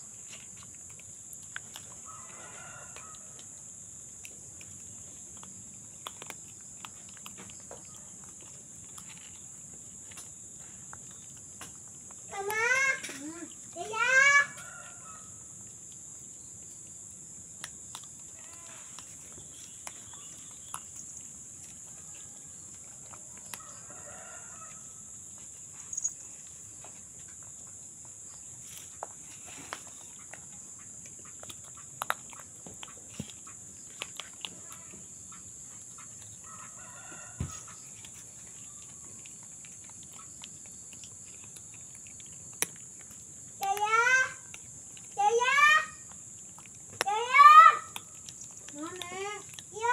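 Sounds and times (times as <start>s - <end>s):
animals crunching dry kibble: 0.0s - 49.9s.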